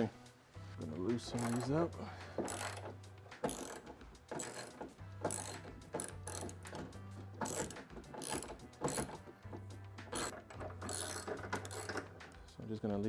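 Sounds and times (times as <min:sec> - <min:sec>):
hand ratchet clicking: 0:00.8 - 0:12.4.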